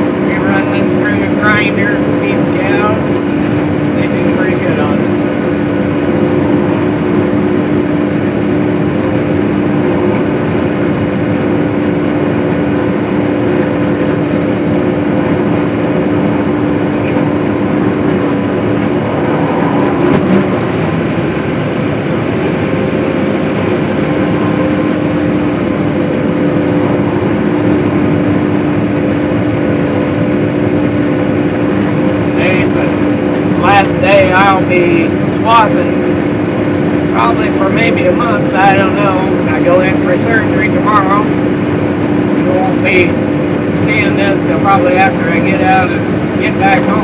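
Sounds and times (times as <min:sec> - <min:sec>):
windrower machine drone: 0:00.0 - 0:47.0.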